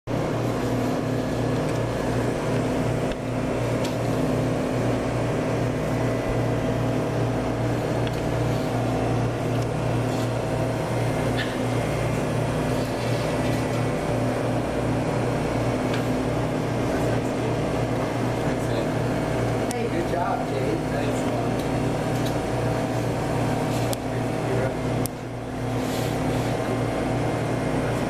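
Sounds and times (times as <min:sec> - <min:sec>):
low mechanical hum: 0:00.1 - 0:28.0.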